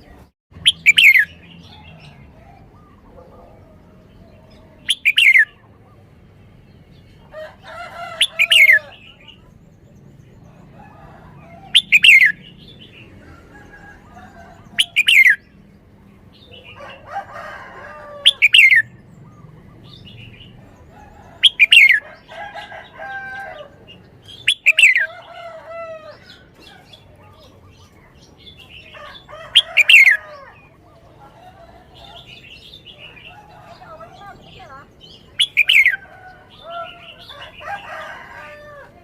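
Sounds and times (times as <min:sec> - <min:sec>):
bird singing: 0:00.0 - 0:39.0.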